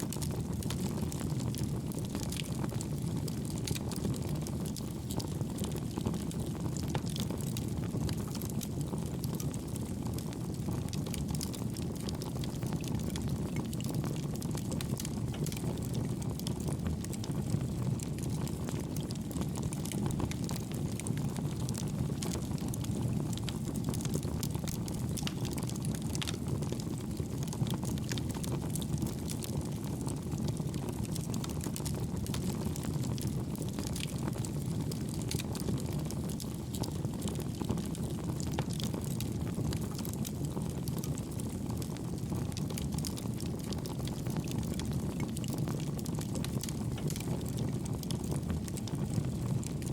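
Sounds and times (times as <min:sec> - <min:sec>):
burning wood crackling: 0:00.1 - 0:49.9
stove flame rumbling: 0:00.2 - 0:49.9.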